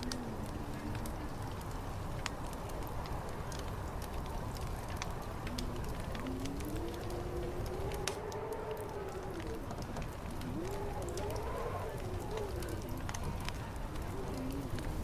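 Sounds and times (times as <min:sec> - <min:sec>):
fire crackling and popping: 0:00.0 - 0:15.0
low rumble of wind: 0:00.0 - 0:15.0.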